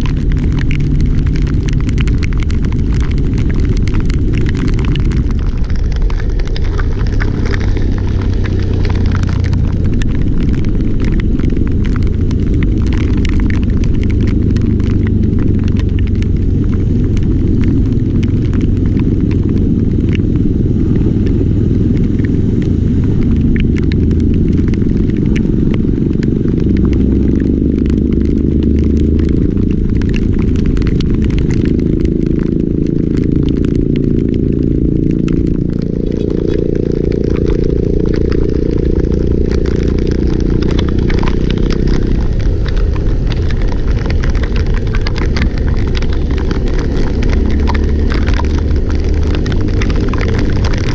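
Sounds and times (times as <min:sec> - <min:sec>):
fine crackling ticks: 0:00.0 - 0:50.9
vehicle rumbling: 0:00.0 - 0:50.9.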